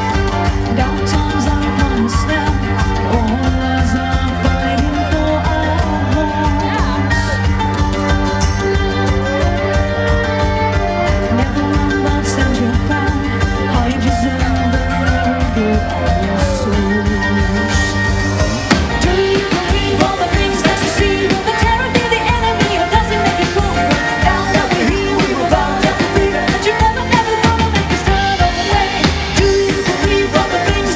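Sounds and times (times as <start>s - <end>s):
live band playing: 0.0s - 30.9s
person singing: 0.0s - 30.9s.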